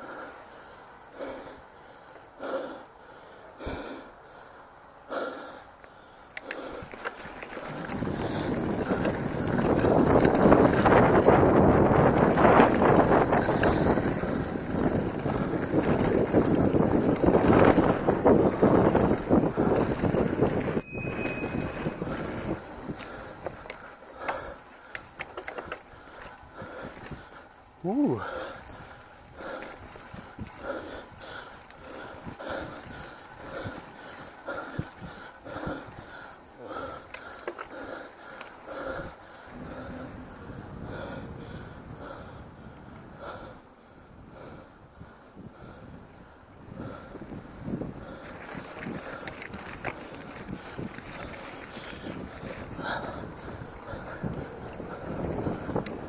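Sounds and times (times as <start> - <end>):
bike tyre and trail noise: 0.0 - 56.0
soft rhythmic puffs: 0.0 - 56.0
bike rattles and clicks: 5.8 - 56.0.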